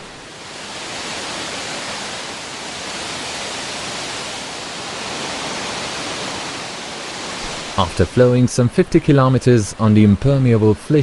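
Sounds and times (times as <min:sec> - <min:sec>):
fast-flowing water rushing: 0:00.0 - 0:10.1.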